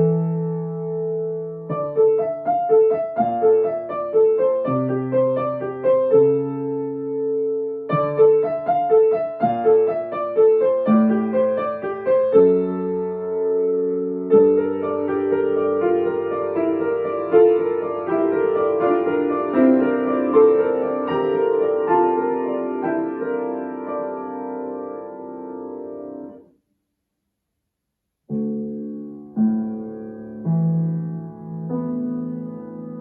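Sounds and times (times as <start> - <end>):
piano music: 0.0 - 26.5, 28.3 - 33.0.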